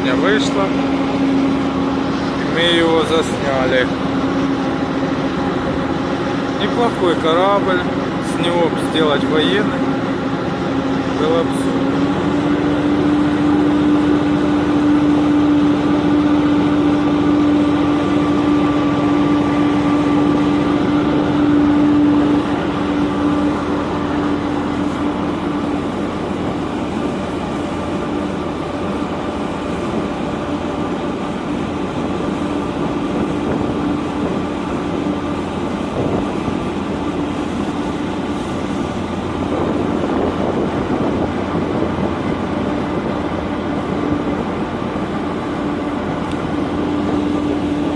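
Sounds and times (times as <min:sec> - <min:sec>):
boat engine drone: 0:00.0 - 0:47.9.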